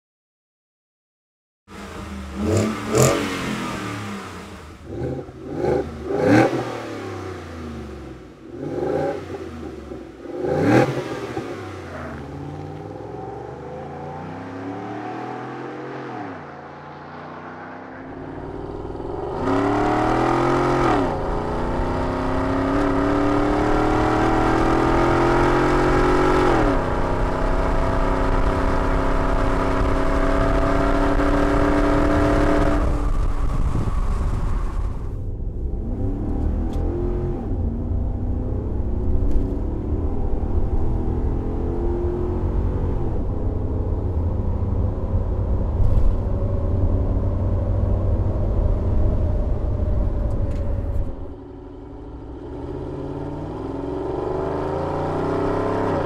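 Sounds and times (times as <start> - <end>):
engine revving: 1.7 - 44.9, 45.6 - 56.0
engine accelerating through gears: 1.7 - 56.0.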